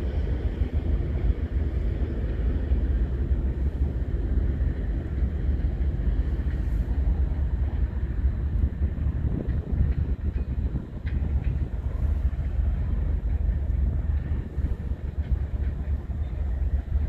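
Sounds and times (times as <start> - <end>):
distant freight train rumble: 0.0 - 17.0
wind buffeting microphone: 0.0 - 17.0.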